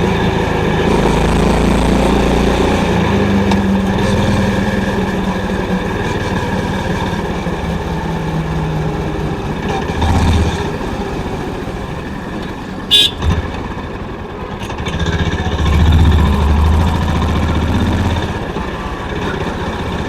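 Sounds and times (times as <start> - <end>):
motorcycle engine and exhaust: 0.0 - 20.0.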